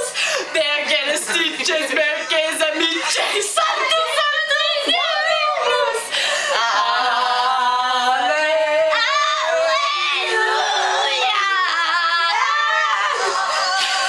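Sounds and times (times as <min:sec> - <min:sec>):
voices singing wordless melismas: 0:00.0 - 0:14.0.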